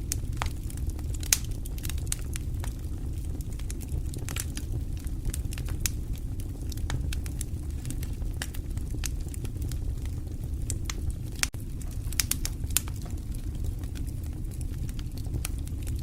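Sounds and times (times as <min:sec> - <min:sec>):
low rumble of flames: 0:00.0 - 0:16.0
wood fire crackles and pops: 0:00.0 - 0:16.0.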